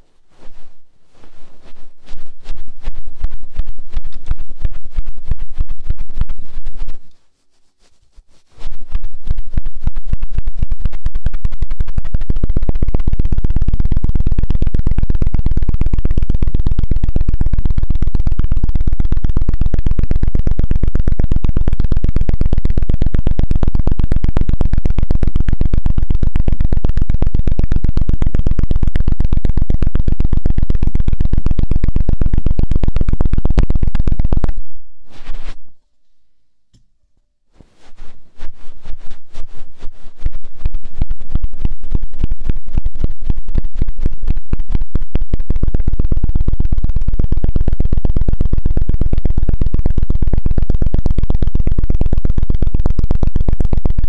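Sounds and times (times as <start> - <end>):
fast rhythmic scratching on microphone: 0.0 - 35.8, 37.5 - 54.0.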